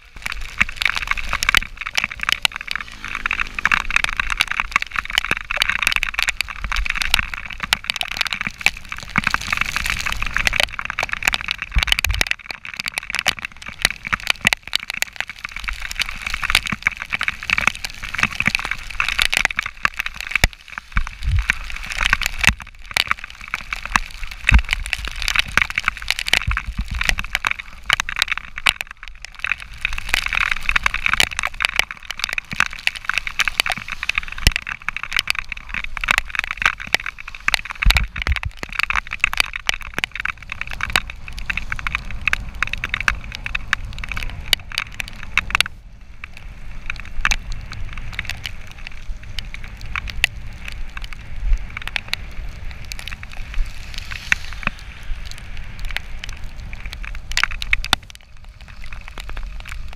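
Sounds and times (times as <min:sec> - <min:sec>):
crackling and rattling: 0:00.0 - 0:59.9.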